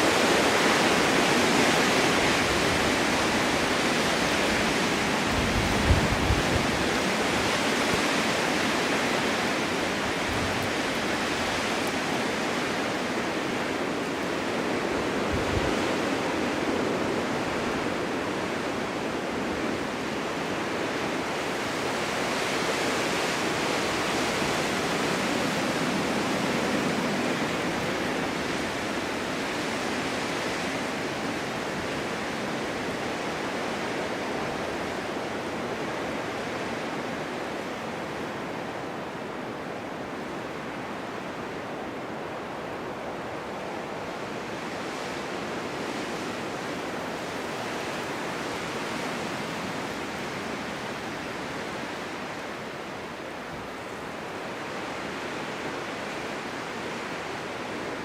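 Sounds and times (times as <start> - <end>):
wind blowing: 0.0 - 58.0.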